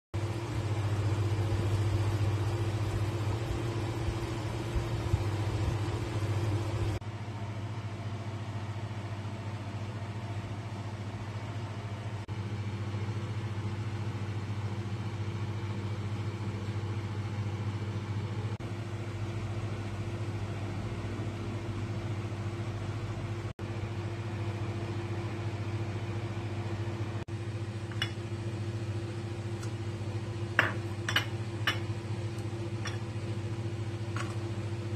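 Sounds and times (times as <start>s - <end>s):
low mechanical hum: 0.2s - 34.9s.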